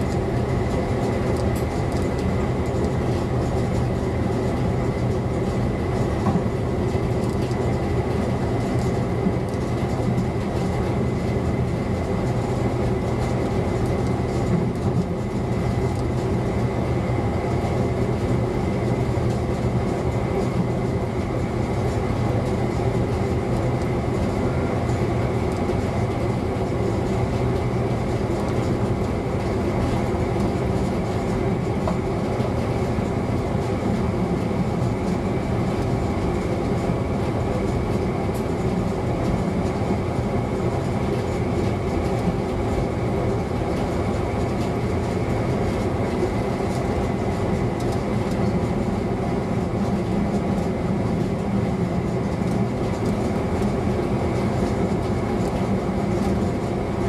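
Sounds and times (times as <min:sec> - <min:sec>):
diesel engine drone: 0:00.0 - 0:57.0
wheels rumbling on rail: 0:00.0 - 0:57.0.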